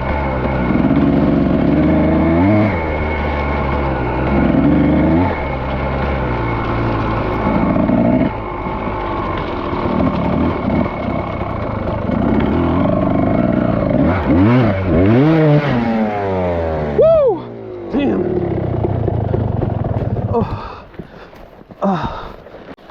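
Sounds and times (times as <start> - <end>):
dirt bike engine revving: 0.0 - 21.3.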